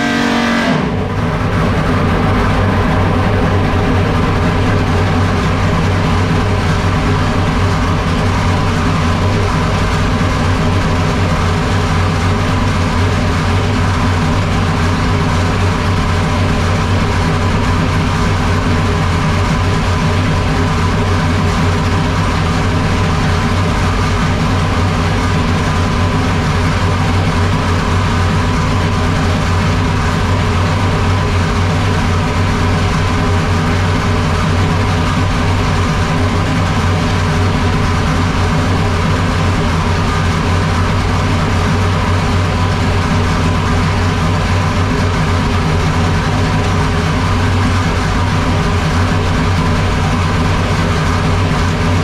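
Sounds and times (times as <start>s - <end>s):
loud race car engine running: 0.0s - 52.0s.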